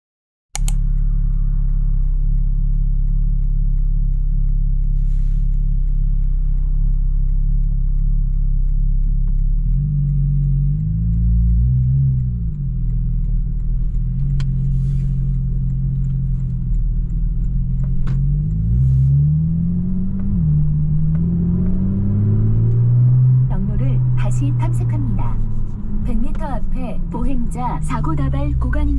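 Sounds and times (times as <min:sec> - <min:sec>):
car engine accelerating: 0:00.6 - 0:28.9.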